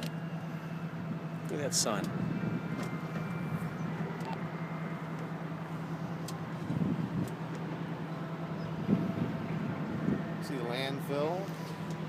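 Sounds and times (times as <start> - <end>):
truck engine and hydraulics humming: 0.0 - 12.0.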